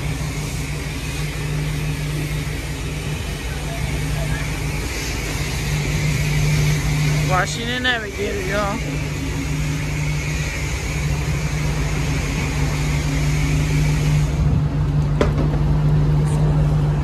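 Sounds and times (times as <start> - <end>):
pressure wand spraying water: 0.0 - 14.8
steady low hum: 0.0 - 17.0.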